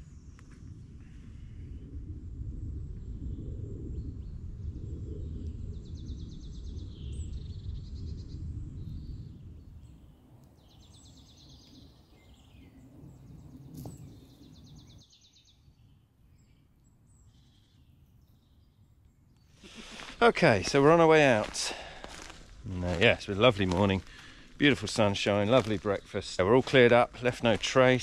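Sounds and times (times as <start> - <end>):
small birds singing: 3.3 - 28.0.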